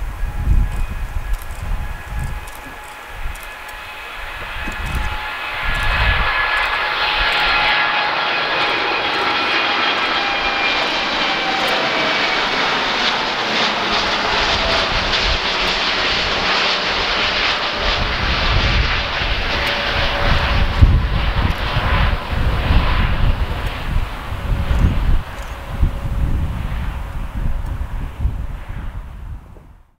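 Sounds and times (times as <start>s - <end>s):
jet airliner climbing overhead: 0.0s - 29.9s
wind buffeting microphone: 0.0s - 29.9s.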